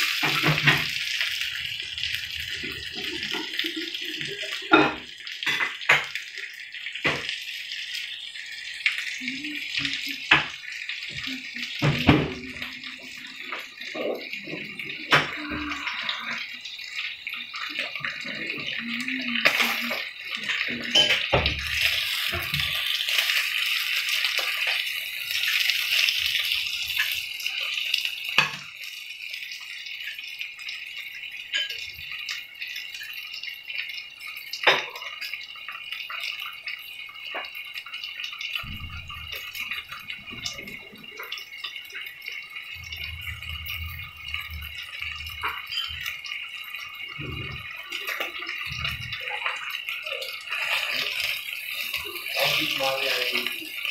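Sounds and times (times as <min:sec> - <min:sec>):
steak sizzling in frying pan: 0:00.0 - 0:53.9.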